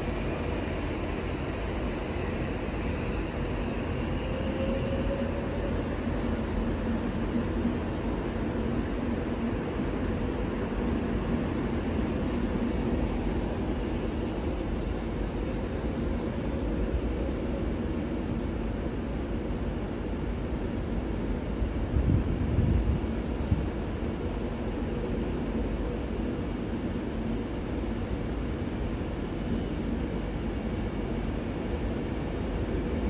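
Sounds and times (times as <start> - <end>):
train rumbling: 0.0 - 33.0.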